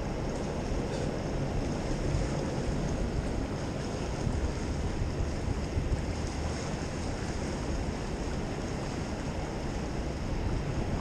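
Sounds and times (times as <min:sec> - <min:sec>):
choppy river water: 0:00.0 - 0:11.0
wind rumble on microphone: 0:00.0 - 0:11.0.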